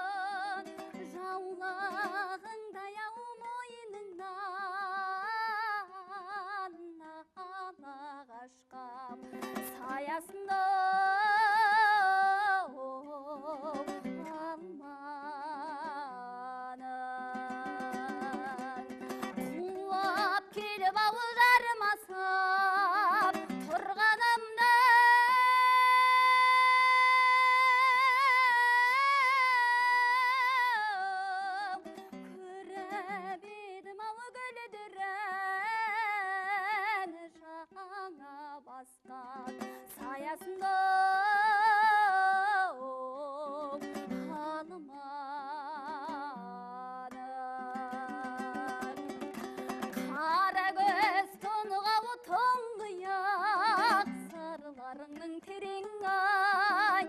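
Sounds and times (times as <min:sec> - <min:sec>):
plucked string accompaniment: 0:00.0 - 0:04.8, 0:09.0 - 0:16.4, 0:17.1 - 0:34.3, 0:39.0 - 0:42.8, 0:43.6 - 0:57.0
woman singing folk song: 0:00.0 - 0:57.0.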